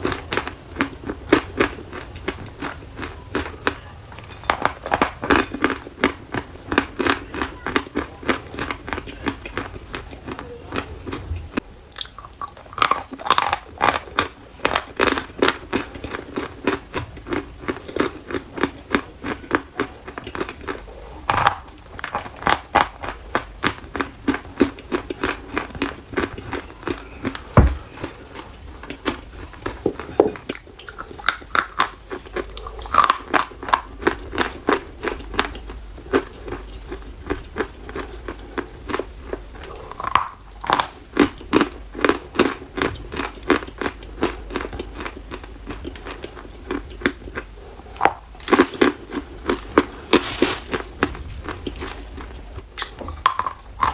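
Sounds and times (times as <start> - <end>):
chalk being chewed: 8.3 - 53.9.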